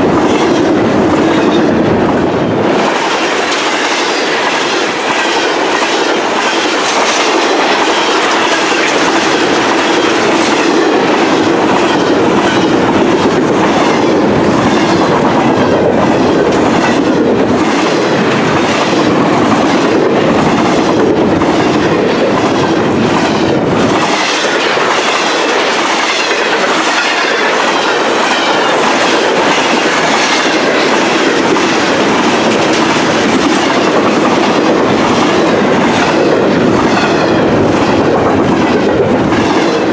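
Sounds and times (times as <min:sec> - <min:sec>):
freight train rumbling past: 0:00.0 - 0:39.9
wheels clickety-clack over rail joints: 0:00.0 - 0:39.9.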